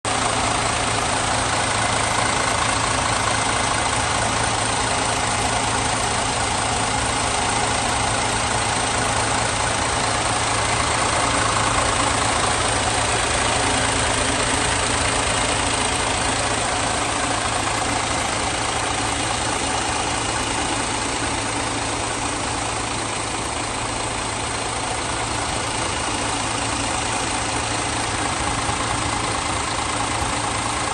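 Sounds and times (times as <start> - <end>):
bus engine idling: 0.1 - 30.9.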